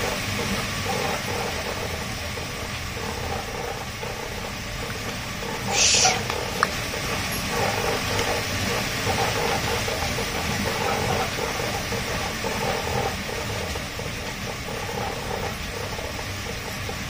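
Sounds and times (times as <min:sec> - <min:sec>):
dog treadmill running: 0:00.0 - 0:17.0.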